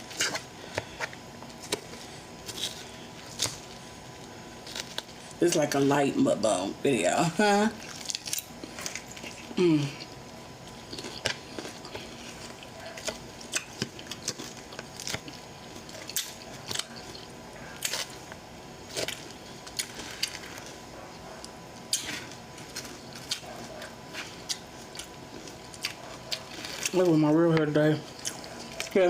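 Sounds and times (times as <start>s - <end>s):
person chewing crunchy food: 0.0s - 5.4s, 7.8s - 29.0s.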